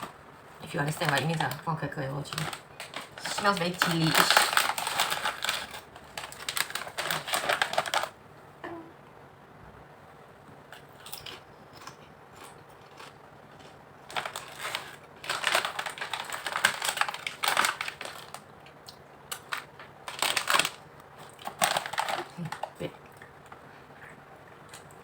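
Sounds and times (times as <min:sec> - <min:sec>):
potato chips crunching: 0:00.8 - 0:08.2, 0:10.8 - 0:25.0.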